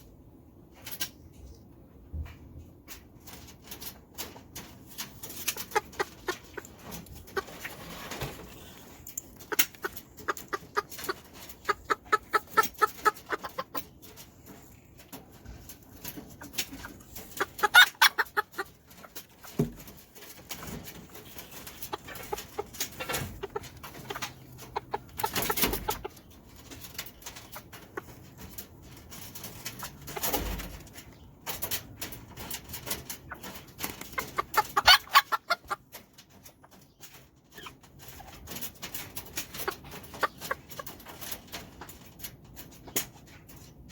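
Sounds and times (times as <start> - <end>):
chickens clucking: 3.1 - 43.9.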